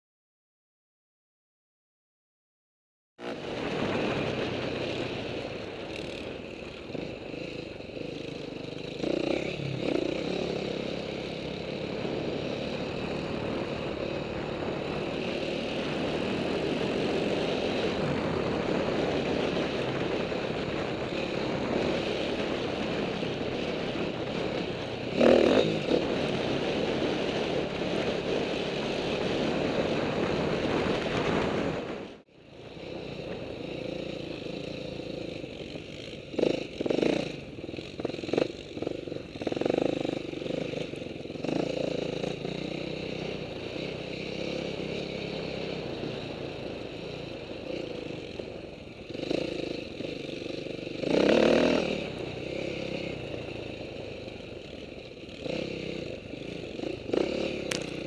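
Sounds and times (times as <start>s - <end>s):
dirt bike engine under throttle: 3.2s - 58.0s.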